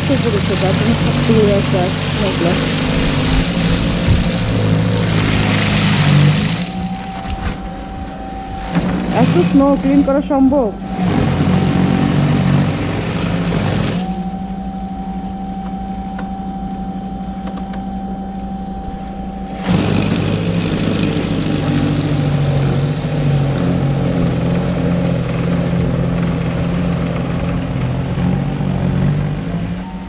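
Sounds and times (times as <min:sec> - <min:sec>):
snow blower running: 0:00.0 - 0:30.0.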